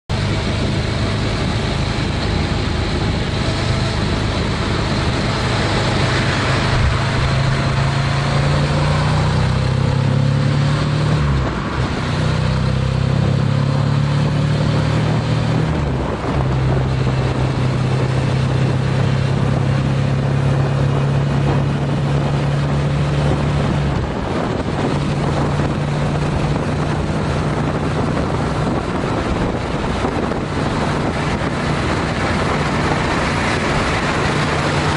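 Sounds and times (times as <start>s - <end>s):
motorcycle engine accelerating: 0.1s - 34.9s
wind rushing over microphone: 0.1s - 34.9s.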